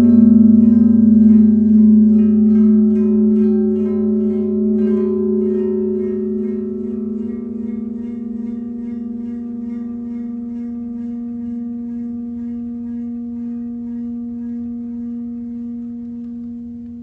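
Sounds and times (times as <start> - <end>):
metal plate ringing tone: 0.0 - 17.0.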